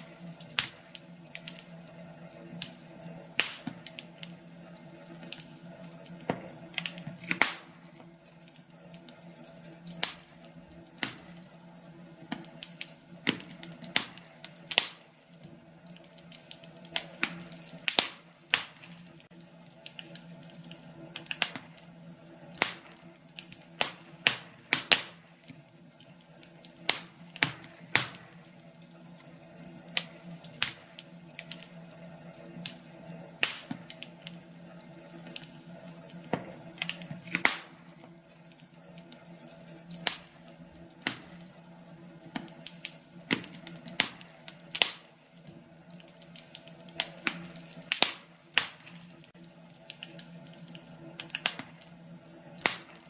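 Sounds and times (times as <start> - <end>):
low fire hiss: 0.0 - 53.0
wood fire crackling: 0.0 - 53.0.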